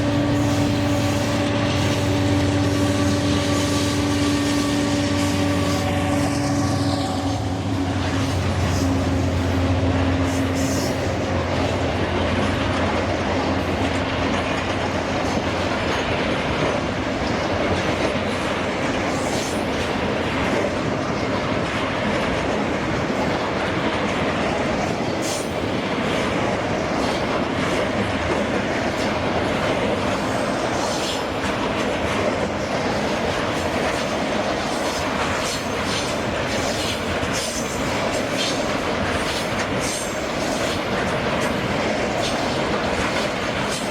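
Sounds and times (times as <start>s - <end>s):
locomotive engine hum: 0.0s - 43.9s
train wheels clacking on rail joints: 0.0s - 43.9s.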